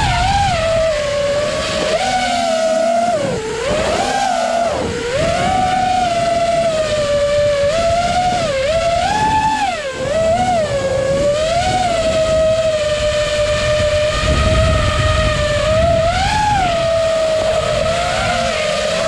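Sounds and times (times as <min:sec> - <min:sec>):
drone motors whining: 0:00.0 - 0:19.0
wind rush on microphone: 0:00.0 - 0:19.0.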